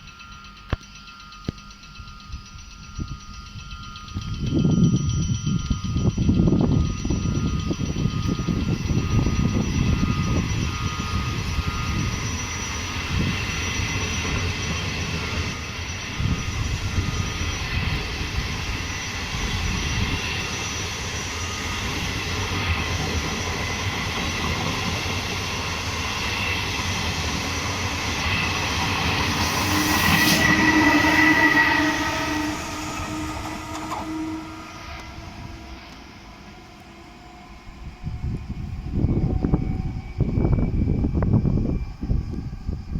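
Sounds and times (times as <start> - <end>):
steady low tone: 0.0 - 22.2, 25.9 - 42.9
train rumbling on rails: 0.0 - 42.9
wheels squealing: 3.6 - 40.5.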